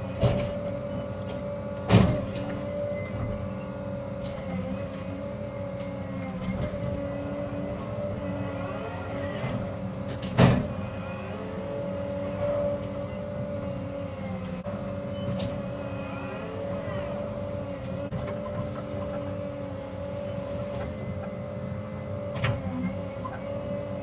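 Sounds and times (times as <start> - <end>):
excavator running: 0.0 - 24.0
hydraulics whining: 0.0 - 24.0.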